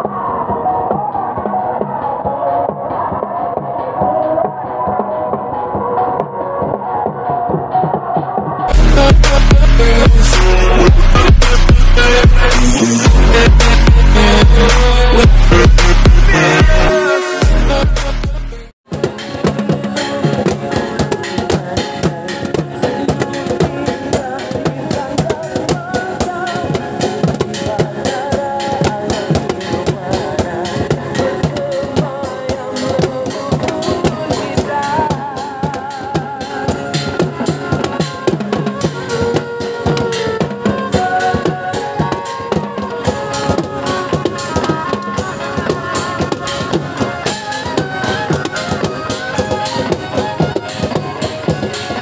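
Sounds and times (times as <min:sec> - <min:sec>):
music with drum beat: 0:00.0 - 0:52.0.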